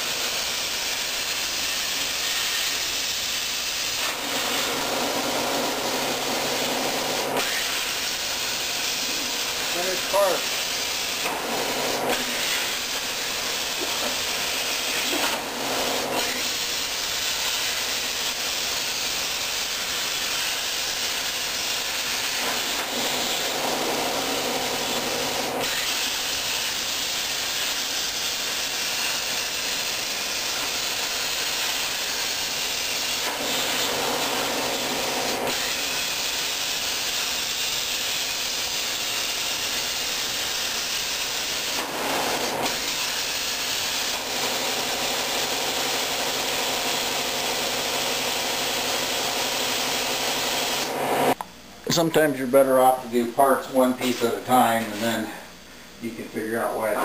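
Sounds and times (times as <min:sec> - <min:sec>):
plasma cutter hissing: 0:00.0 - 0:51.4, 0:53.4 - 0:55.5.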